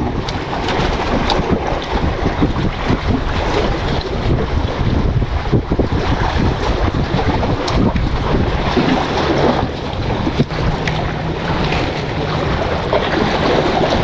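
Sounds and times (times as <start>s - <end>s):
sea washing against rocks: 0.0s - 14.0s
wind buffeting microphone: 0.0s - 14.0s.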